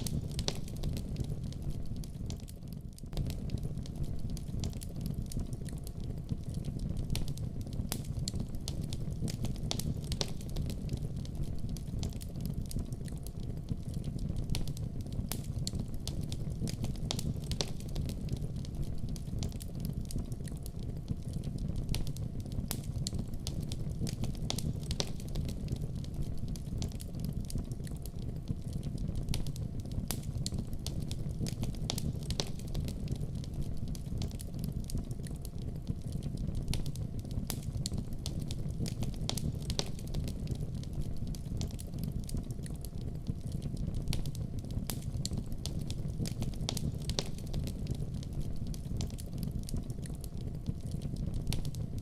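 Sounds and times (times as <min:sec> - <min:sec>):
fire crackling and popping: 0:00.0 - 0:52.0
fire flames rumbling: 0:00.0 - 0:52.0.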